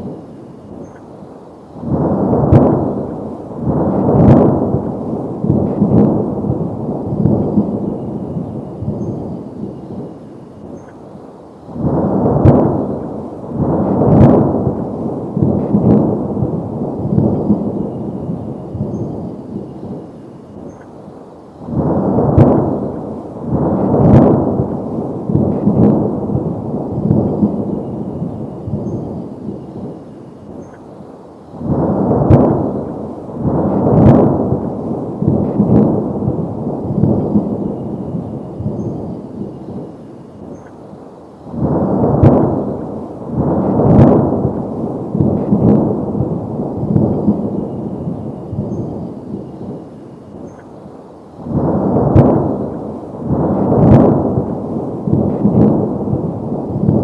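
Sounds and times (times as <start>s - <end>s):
deep thunder-like booms: 1.8s - 10.8s, 11.7s - 20.1s, 21.6s - 30.6s, 31.6s - 40.0s, 41.5s - 49.9s, 51.4s - 57.0s.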